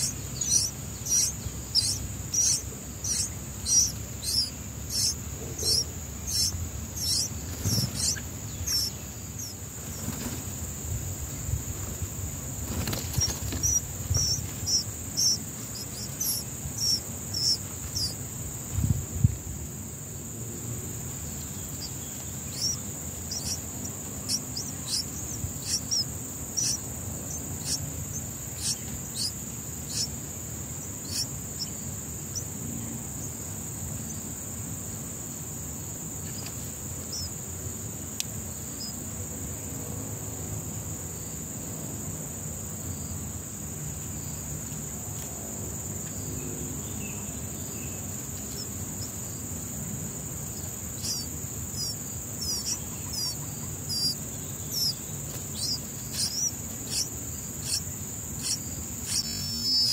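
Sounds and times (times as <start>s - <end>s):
nestling birds chirping: 0.0s - 42.0s, 42.8s - 59.9s
high insect drone: 0.0s - 59.9s.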